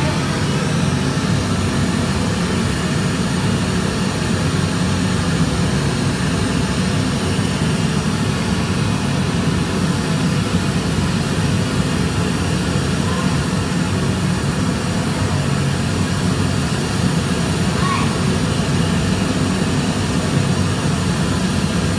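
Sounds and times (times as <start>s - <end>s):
vehicle engine: 0.0s - 21.9s.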